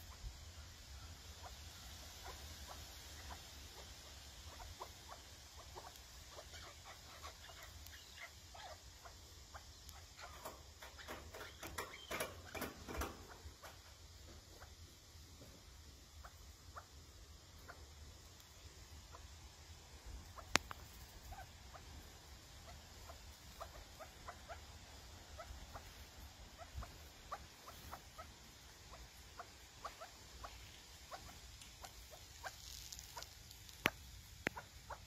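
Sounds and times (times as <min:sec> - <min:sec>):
partridges calling softly: 0:00.0 - 0:35.0.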